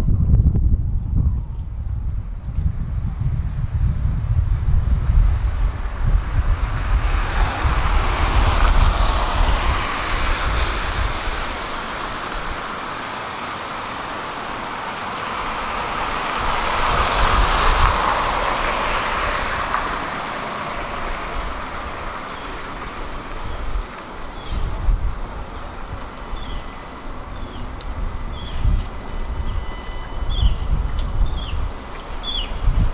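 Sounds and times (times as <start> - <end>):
wind rumble on microphone: 0.0 - 12.9, 15.3 - 32.9
vehicles passing by: 5.0 - 32.9.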